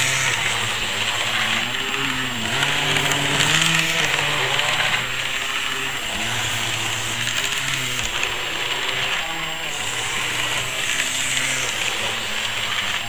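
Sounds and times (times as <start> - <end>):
small electric motor humming: 0.0 - 13.0.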